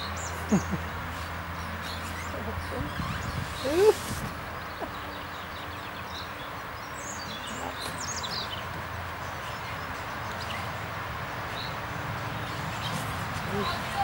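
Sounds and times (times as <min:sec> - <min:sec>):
outdoor background rush: 0:00.0 - 0:14.0
small birds chirping: 0:00.0 - 0:14.0.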